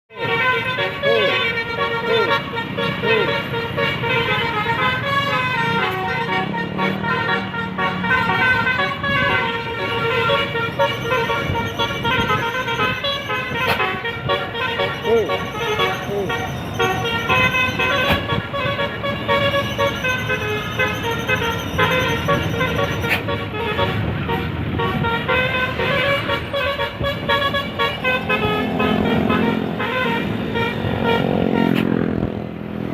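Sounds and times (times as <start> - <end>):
multi-tone air horn tune: 0.1 - 32.2
bus engine rumble: 0.1 - 32.9.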